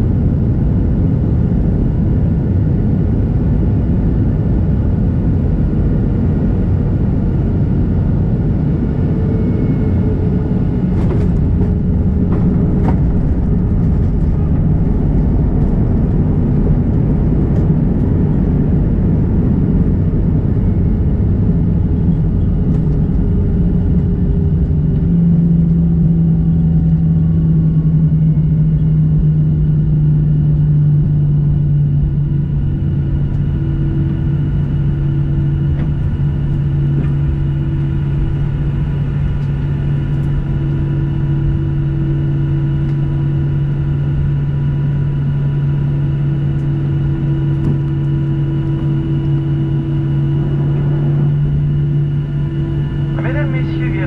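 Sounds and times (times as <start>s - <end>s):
airplane landing rumble: 0.0s - 54.0s
high engine whines: 0.0s - 54.0s
low engine hum: 0.0s - 54.0s.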